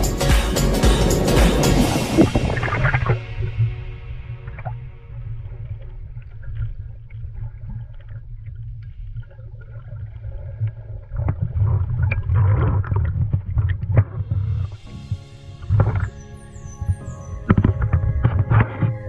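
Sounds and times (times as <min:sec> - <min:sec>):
underwater rumble of moving water: 0:01.1 - 0:19.0
bubbling and crackling: 0:01.8 - 0:19.0.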